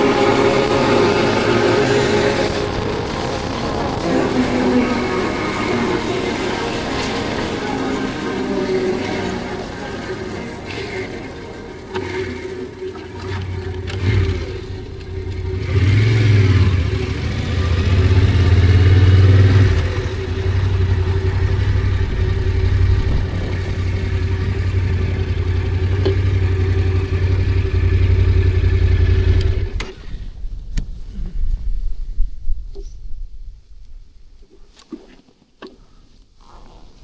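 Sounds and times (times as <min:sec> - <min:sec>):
motorcycle engine revving: 0:00.0 - 0:30.5.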